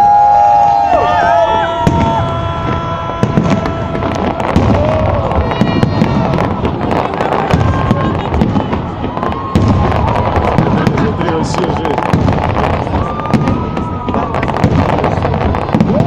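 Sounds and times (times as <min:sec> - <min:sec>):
deep fireworks booms: 0:00.0 - 0:16.0
fireworks bangs and crackles: 0:00.0 - 0:16.0.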